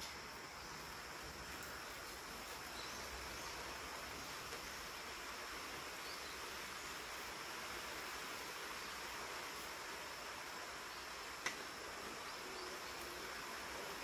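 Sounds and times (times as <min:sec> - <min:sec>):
background hiss: 0:00.0 - 0:14.0
faint high-pitched whine: 0:00.0 - 0:14.0.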